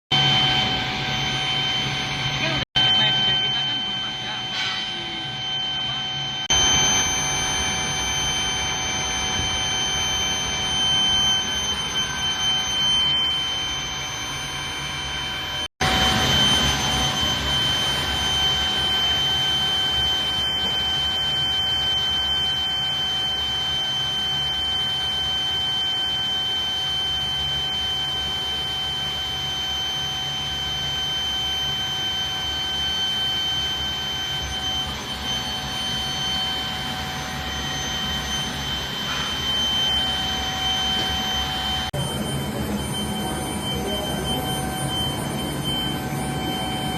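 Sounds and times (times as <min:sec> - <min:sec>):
furnace high-pitched whine: 0:00.1 - 0:46.9.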